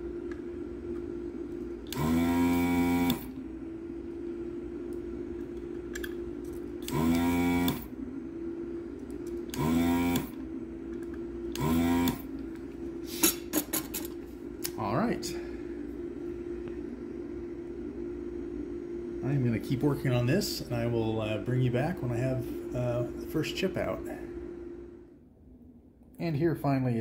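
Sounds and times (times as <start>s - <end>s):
desoldering pump buzzing: 0.0s - 25.1s
steady hum: 0.0s - 27.0s.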